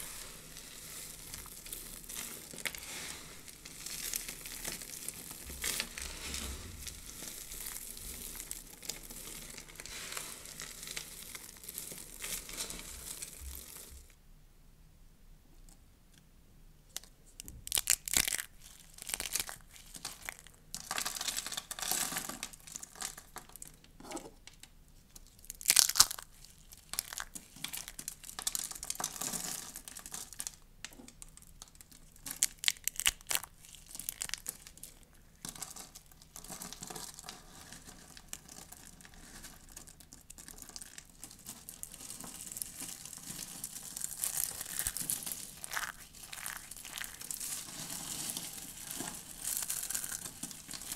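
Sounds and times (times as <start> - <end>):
dry soap crunching and crackling: 0.0 - 14.2, 16.9 - 50.9.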